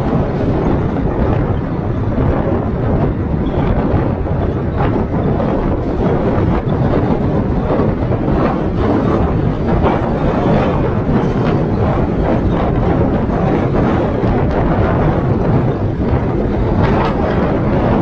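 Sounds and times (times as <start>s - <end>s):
tyre and road rumble: 0.0s - 18.0s
wind buffeting microphone: 0.0s - 18.0s.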